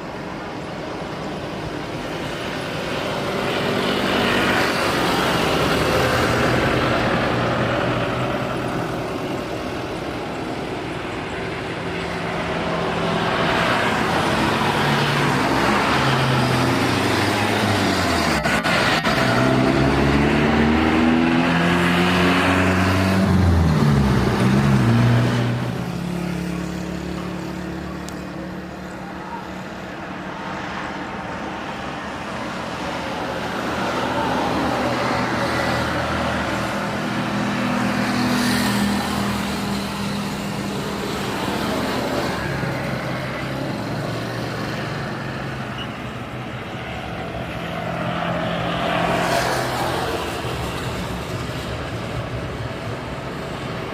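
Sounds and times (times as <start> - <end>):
traffic noise: 0.0 - 53.9
vehicle passing close: 2.1 - 28.9, 30.0 - 53.9.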